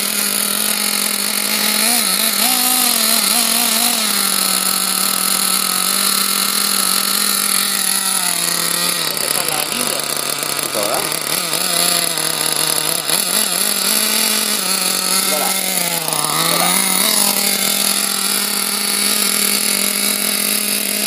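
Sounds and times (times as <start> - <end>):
small nitro engine idling: 0.0 - 21.0.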